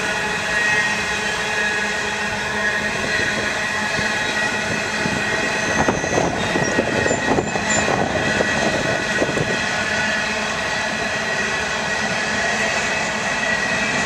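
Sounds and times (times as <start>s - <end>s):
freight train cars rumbling: 0.0s - 14.0s
high squeals of train wheels: 0.0s - 14.0s
train cars clanking: 0.0s - 14.0s.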